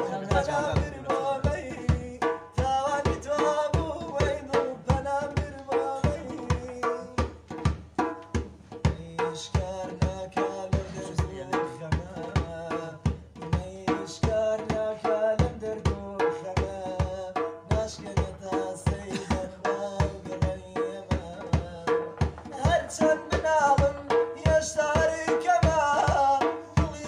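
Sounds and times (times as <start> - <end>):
goblet drum played by hand: 0.0 - 27.0.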